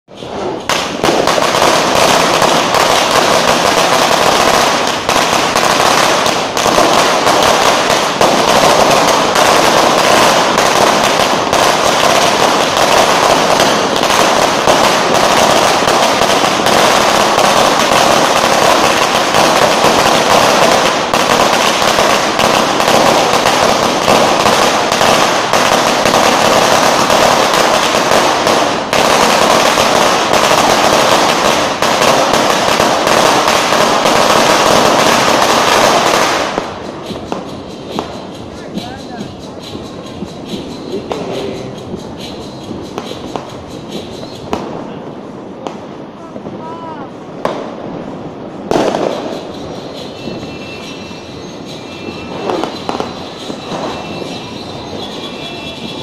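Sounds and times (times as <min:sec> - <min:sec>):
firecrackers crackling: 0:00.1 - 0:56.0.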